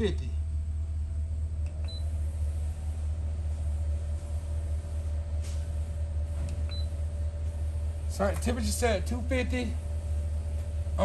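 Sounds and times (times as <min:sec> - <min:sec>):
faint fan hum: 0:00.0 - 0:11.0
smoker low rumble: 0:00.0 - 0:11.0.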